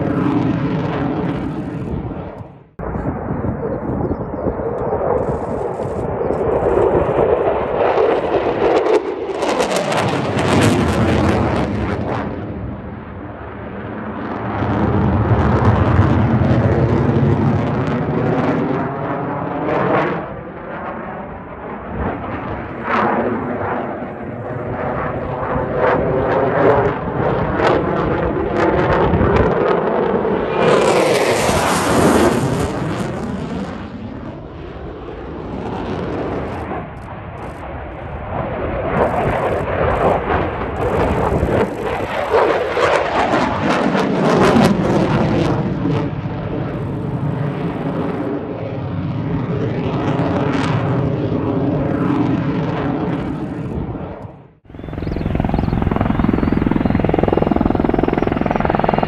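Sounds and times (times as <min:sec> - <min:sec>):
jet flying past: 0:00.0 - 0:59.0.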